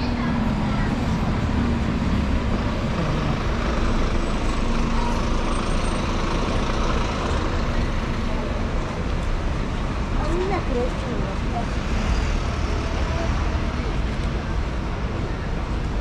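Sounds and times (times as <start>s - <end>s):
bus engines running: 0.0s - 16.0s
city traffic noise: 0.0s - 16.0s.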